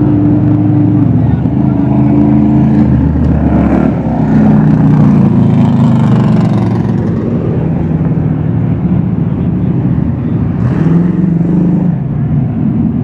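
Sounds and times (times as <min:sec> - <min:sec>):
stock car engines passing: 0:00.0 - 0:13.0.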